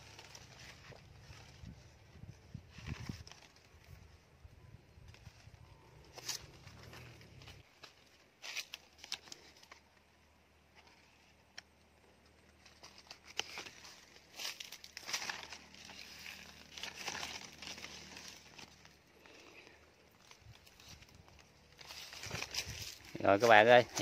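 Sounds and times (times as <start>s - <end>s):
rustling and crackling leaves: 0.0s - 24.0s.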